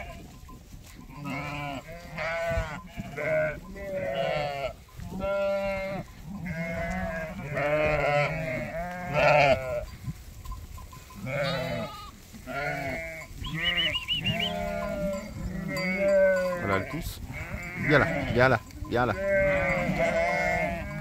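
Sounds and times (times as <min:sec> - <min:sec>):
sheep bleating: 0:00.0 - 0:00.3, 0:01.1 - 0:09.9, 0:11.1 - 0:21.0
high quavering lamb bleats: 0:01.1 - 0:09.9, 0:11.2 - 0:18.5, 0:19.1 - 0:21.0.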